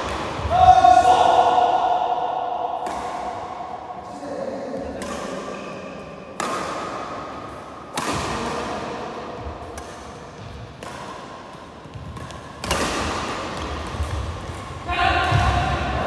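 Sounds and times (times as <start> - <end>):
rackets hitting shuttlecock: 0.0 - 0.7, 2.6 - 4.0, 4.7 - 16.0.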